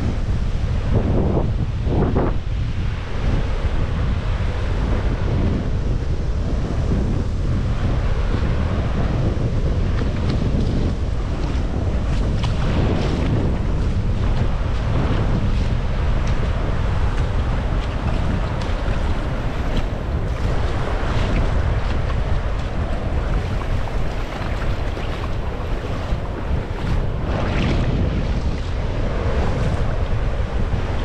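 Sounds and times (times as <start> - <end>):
waves on shore: 0.0 - 31.0
wind on microphone: 0.0 - 31.0.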